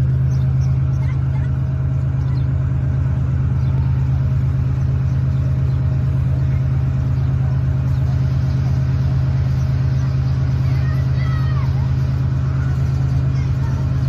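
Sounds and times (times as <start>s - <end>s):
train low drone: 0.0s - 14.0s.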